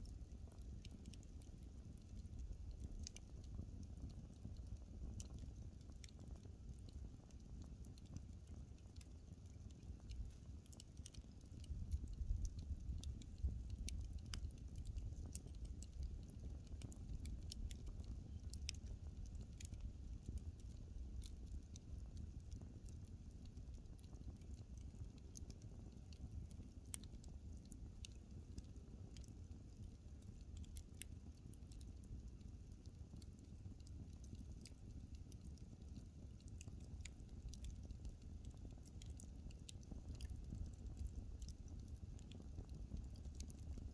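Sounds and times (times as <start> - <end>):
low rumble of flames: 0.0 - 43.9
wood crackling and popping: 0.0 - 43.9.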